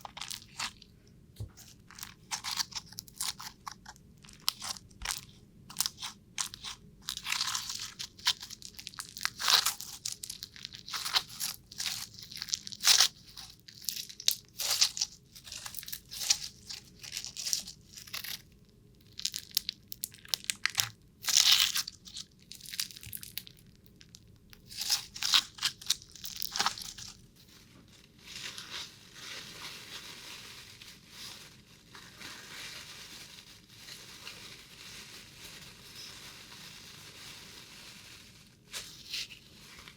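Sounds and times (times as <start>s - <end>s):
crunching and crackling: 0.0s - 39.9s.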